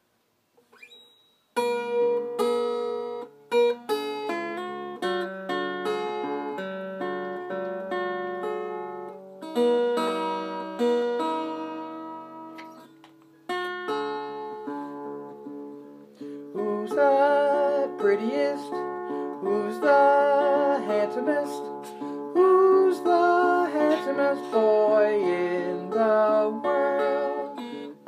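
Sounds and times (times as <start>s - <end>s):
ukulele strummed and picked: 1.6s - 28.0s.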